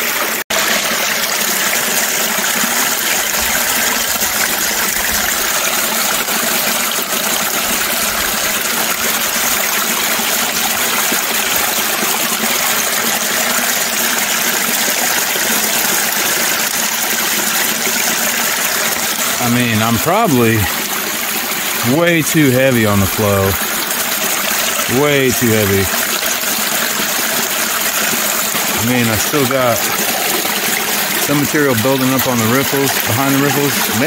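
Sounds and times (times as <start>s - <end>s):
water rushing down metal sluice: 0.0s - 34.0s.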